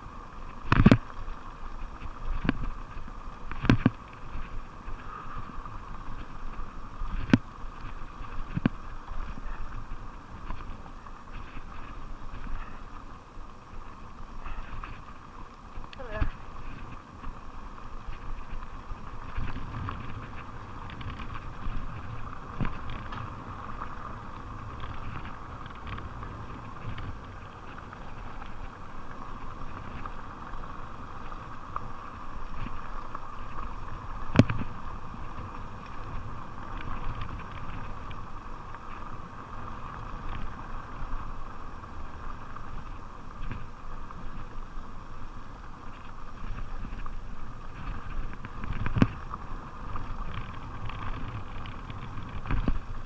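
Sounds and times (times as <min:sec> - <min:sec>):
bike rattling over bumps: 0:00.0 - 0:53.0
bike tyres rolling on dirt: 0:00.0 - 0:53.0.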